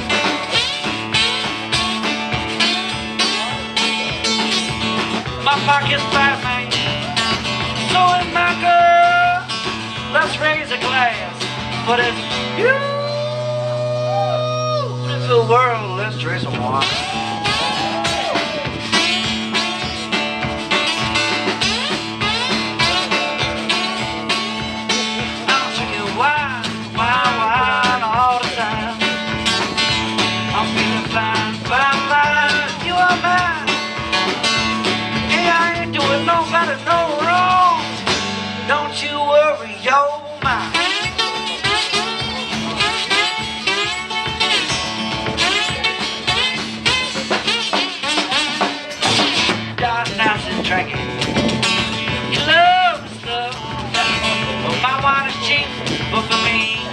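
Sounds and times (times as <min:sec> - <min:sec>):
acoustic guitar blues: 0:00.0 - 0:56.9
drum kit beat: 0:00.0 - 0:56.9.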